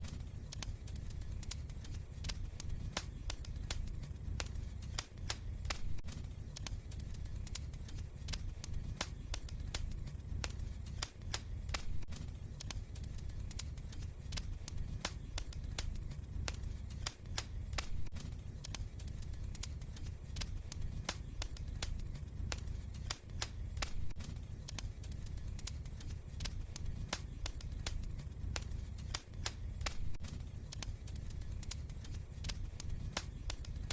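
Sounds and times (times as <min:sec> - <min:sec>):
low rumble of flame: 0:00.0 - 0:33.9
wood fire crackling: 0:00.0 - 0:33.9.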